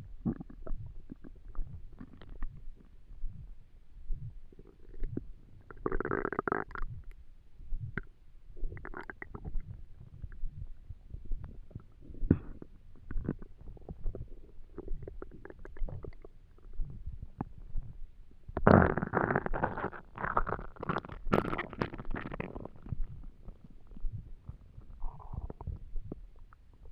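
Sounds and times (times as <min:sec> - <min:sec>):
stomach rumbling and gurgling: 0:00.0 - 0:26.9
soft regular thumps: 0:00.6 - 0:04.4, 0:06.7 - 0:18.7, 0:20.6 - 0:26.9.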